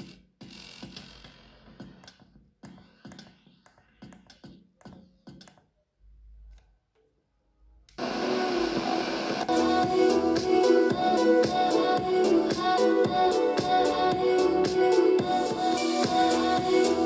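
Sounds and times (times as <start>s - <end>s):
stuttering electronic music on radio: 0.0s - 5.6s, 8.0s - 17.0s.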